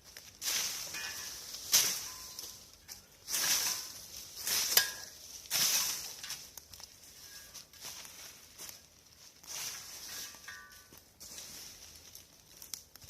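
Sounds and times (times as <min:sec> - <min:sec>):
branches and leaves rustling: 0:00.0 - 0:13.0
branches snapping: 0:00.0 - 0:13.0.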